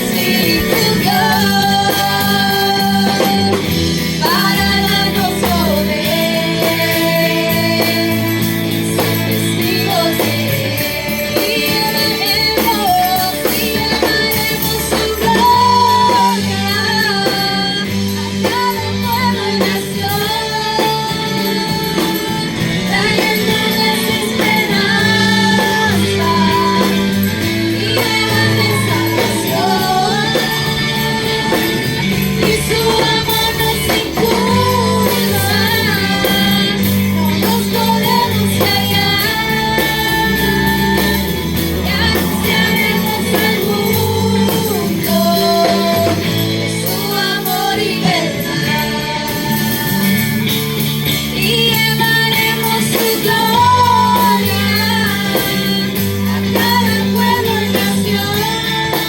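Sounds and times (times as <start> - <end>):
person singing: 0.0 - 50.4
band with bass and guitar: 0.0 - 59.0.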